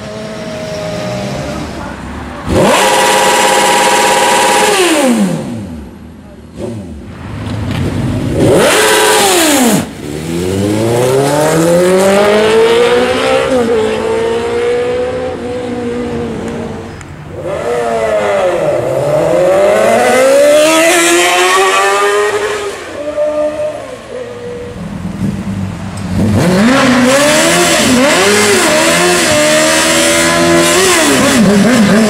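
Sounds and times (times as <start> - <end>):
motorcycle engines accelerating hard: 0.0 - 23.7, 25.0 - 32.0.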